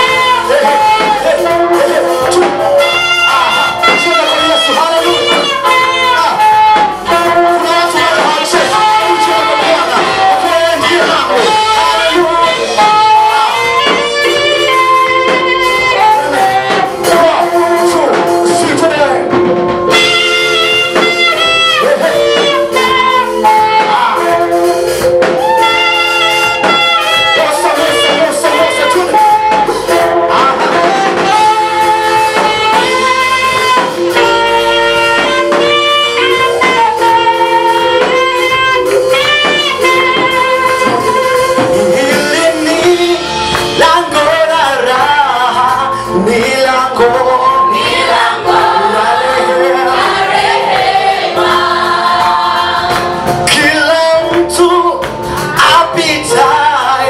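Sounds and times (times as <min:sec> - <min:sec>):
person singing: 0:00.0 - 0:19.4, 0:21.7 - 0:34.3, 0:35.2 - 0:50.0, 0:53.3 - 0:57.0
guitar: 0:00.0 - 0:57.0.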